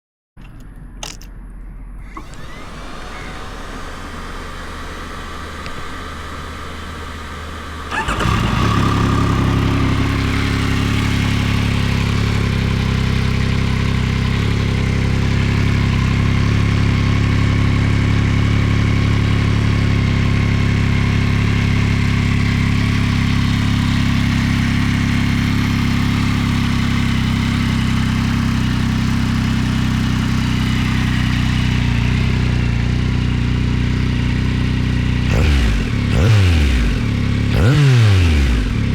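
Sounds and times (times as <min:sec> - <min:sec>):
motorcycle engine starting and idling: 0:02.0 - 0:38.9.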